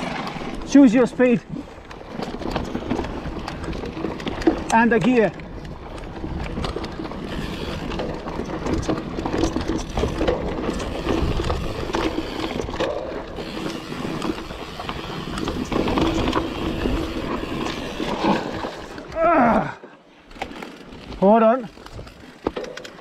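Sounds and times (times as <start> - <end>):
bike rattling over bumps: 0.0 - 23.0
tyres rolling over dirt: 0.0 - 23.0.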